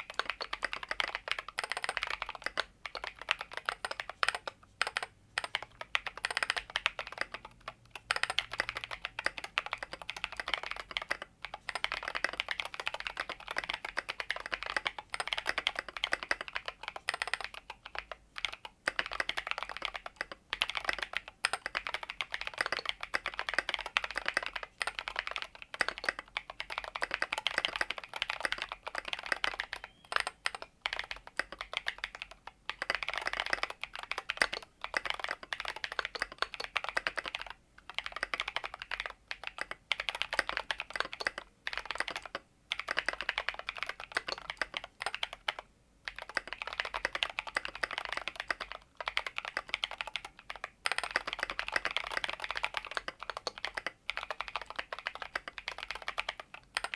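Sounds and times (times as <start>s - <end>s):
mechanical keyboard typing: 0.0s - 56.9s.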